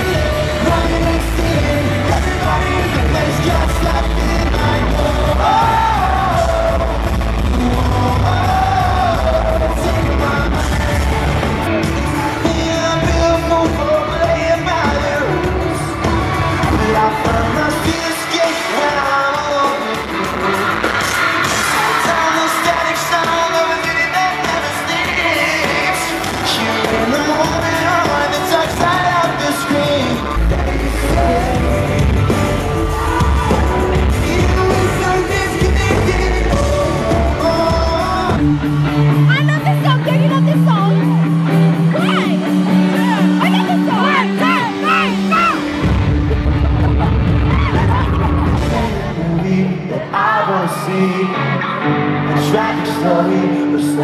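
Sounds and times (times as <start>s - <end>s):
person singing: 0.0s - 41.2s, 46.6s - 54.0s
bass guitar: 0.0s - 50.5s
drums: 0.0s - 50.9s
electric guitars: 0.0s - 54.0s.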